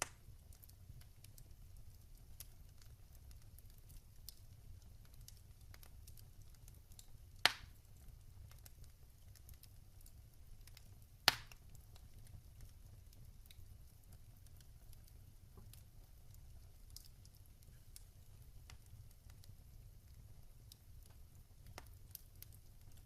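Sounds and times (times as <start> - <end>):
fire crackling: 0.0 - 23.0
fire rumbling: 0.0 - 23.0.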